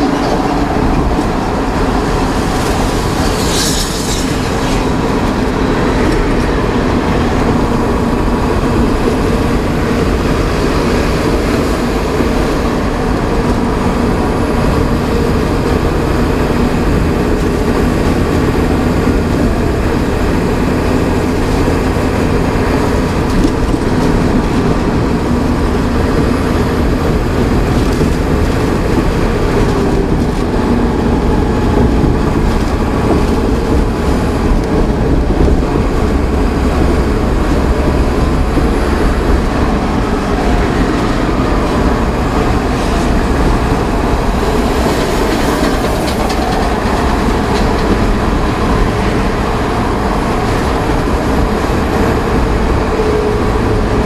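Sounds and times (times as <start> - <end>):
diesel engine drone: 0.0 - 54.0
tyre and road rumble: 0.0 - 54.0
wind noise: 0.0 - 54.0.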